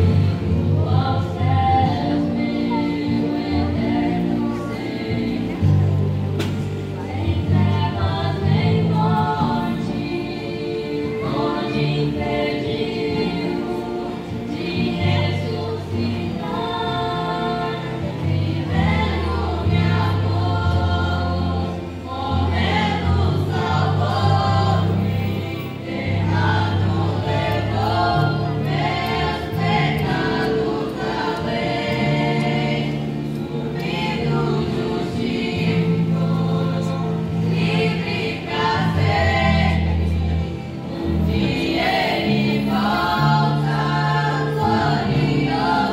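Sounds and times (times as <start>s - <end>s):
choir singing worship song: 0.0s - 45.9s
sustained bass notes: 0.0s - 45.9s.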